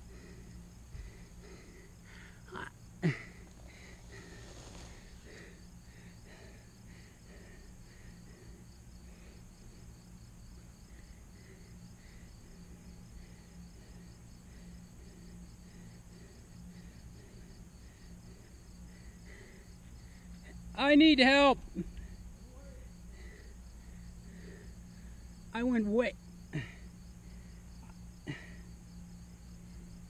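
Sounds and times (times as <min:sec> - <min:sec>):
crickets chirping: 0:00.0 - 0:30.0
low steady hum: 0:00.0 - 0:30.0.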